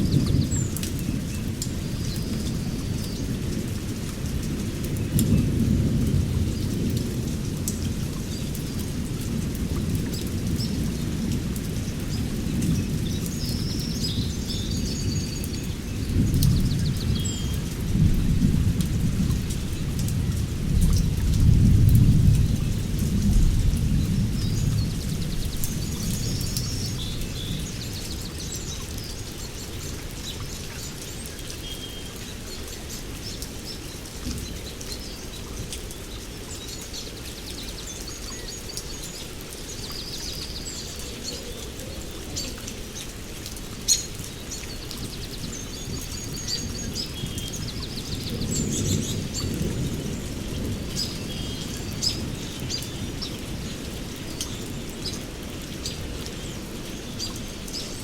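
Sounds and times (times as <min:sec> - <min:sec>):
dripping water: 0:00.0 - 0:58.0
rain falling: 0:00.0 - 0:58.0.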